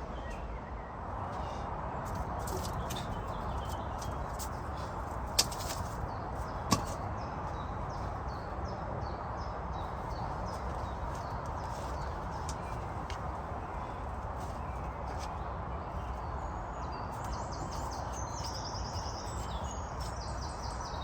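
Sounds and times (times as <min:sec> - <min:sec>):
steady outdoor hiss: 0:00.0 - 0:21.0.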